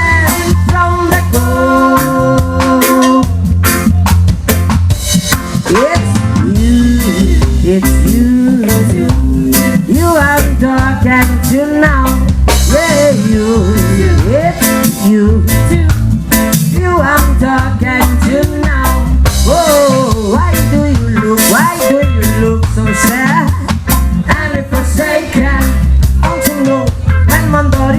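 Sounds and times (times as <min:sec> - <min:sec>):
live band playing: 0:00.0 - 0:27.9
sliding lead melody: 0:00.0 - 0:27.9.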